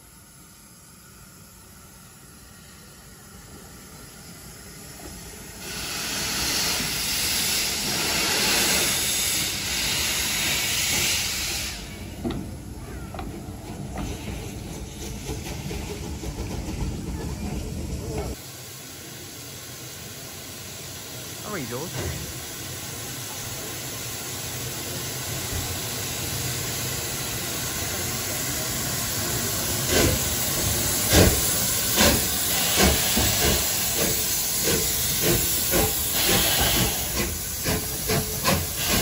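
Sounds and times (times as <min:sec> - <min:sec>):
steam locomotive hissing steam: 0:00.0 - 0:39.0.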